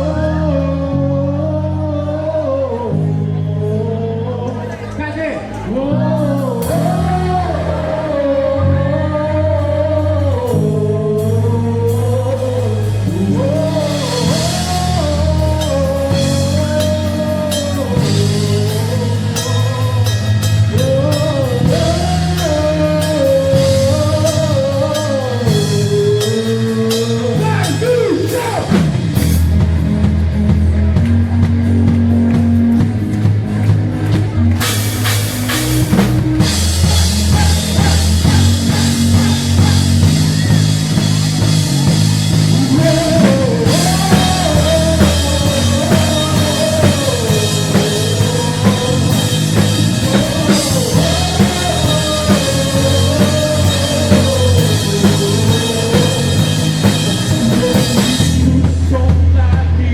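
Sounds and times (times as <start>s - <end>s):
person singing: 0.0s - 28.8s, 35.9s - 59.9s
rock song with bass and guitar: 0.0s - 59.9s
drum kit playing: 6.2s - 9.0s, 10.2s - 59.9s.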